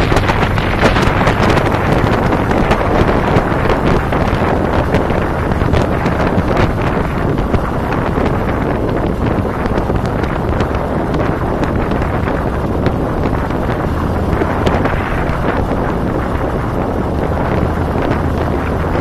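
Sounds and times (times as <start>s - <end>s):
motorcycle engine droning: 0.0s - 19.0s
wind buffeting microphone: 0.0s - 19.0s.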